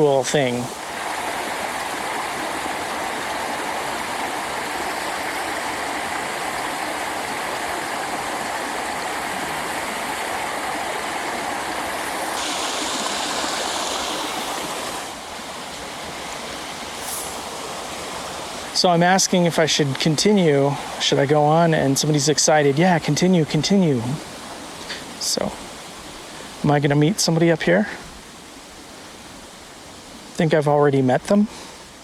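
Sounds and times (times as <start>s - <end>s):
creek water rushing: 0.0s - 32.0s.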